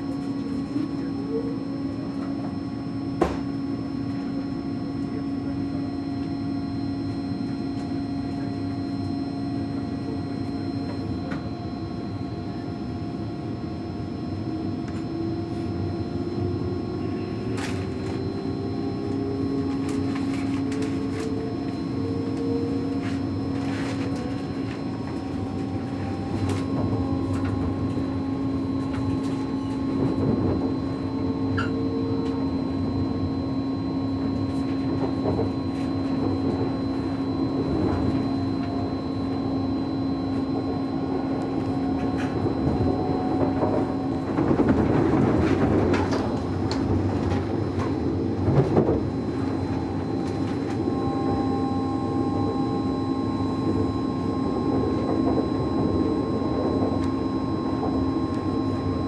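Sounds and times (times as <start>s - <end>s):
train electrical hum: 0.0s - 59.0s
traction motor whine rising: 6.2s - 59.0s.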